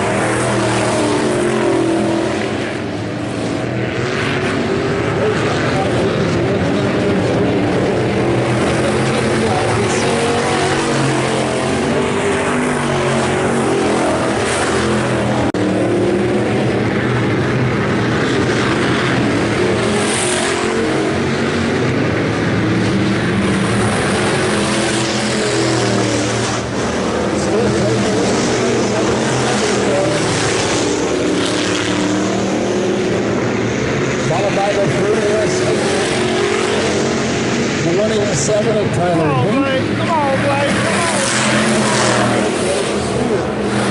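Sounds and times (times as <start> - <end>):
race car engines: 0.0 - 43.9.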